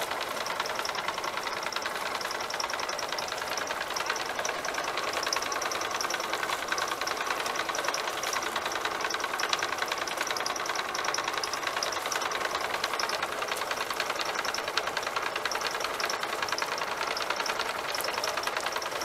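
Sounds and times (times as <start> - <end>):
water pump engine running: 0.0 - 19.0.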